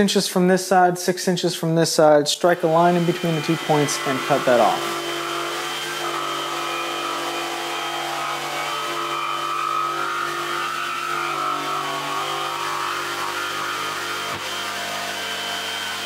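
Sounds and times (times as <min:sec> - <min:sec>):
jigsaw sawing plywood: 0:02.4 - 0:16.0.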